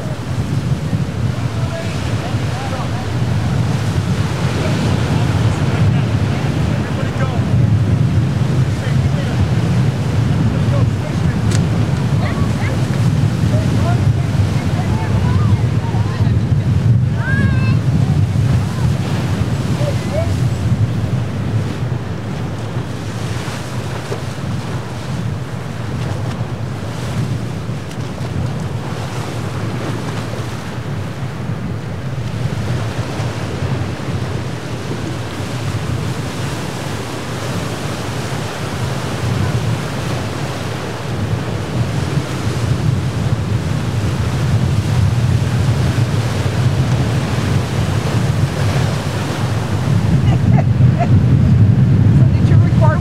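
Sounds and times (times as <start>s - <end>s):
surf breaking against rocks: 0.0s - 53.0s
wind noise on microphone: 0.0s - 53.0s.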